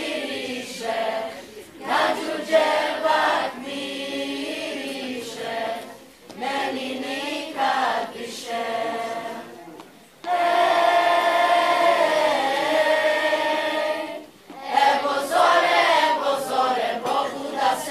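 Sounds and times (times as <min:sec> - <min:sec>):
children's choir singing: 0:00.0 - 0:17.9.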